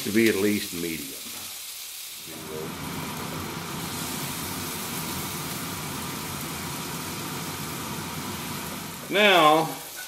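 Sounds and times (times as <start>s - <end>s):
patties sizzling in a pan: 0.0s - 10.0s.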